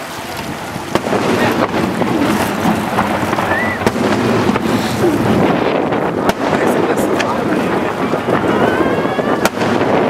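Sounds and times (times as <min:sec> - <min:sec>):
firework shells bursting: 0:00.0 - 0:08.6, 0:09.2 - 0:10.0
wind buffeting microphone: 0:00.0 - 0:10.0
noisy crowd: 0:00.7 - 0:10.0.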